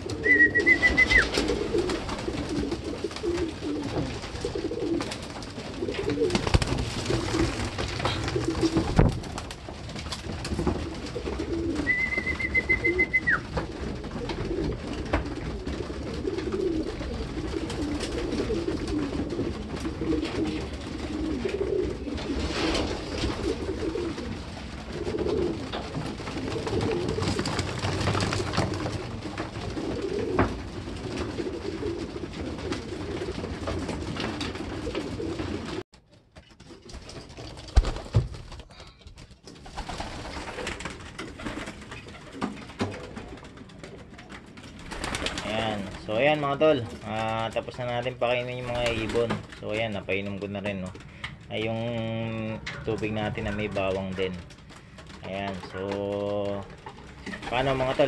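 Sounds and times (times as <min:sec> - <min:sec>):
pigeons cooing: 0:00.0 - 0:35.8, 0:39.6 - 0:58.0.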